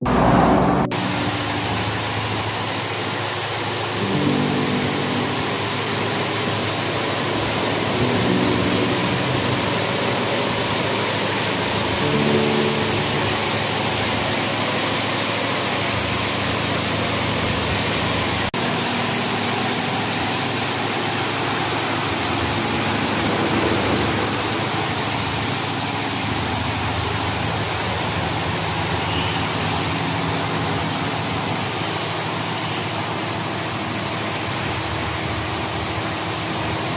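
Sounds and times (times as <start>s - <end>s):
low machine hum: 0.0s - 36.9s
water spraying: 0.9s - 36.9s.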